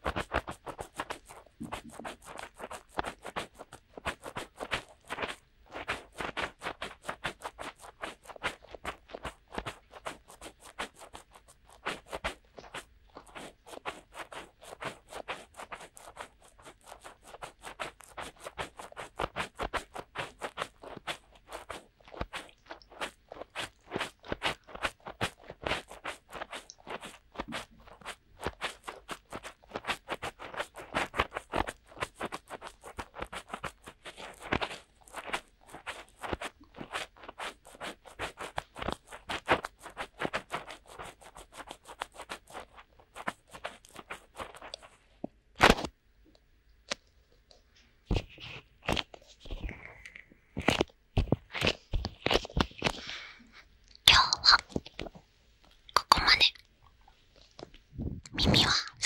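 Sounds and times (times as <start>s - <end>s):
fingertips scratching microphone: 0.0s - 45.0s, 48.1s - 53.2s, 54.1s - 55.2s, 56.0s - 56.6s, 57.9s - 59.0s.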